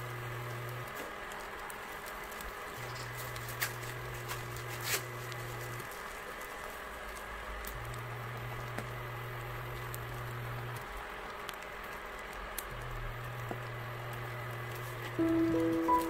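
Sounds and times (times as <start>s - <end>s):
low hum from induction hob: 0.0s - 15.8s
egg sizzling in a pan: 0.0s - 16.0s.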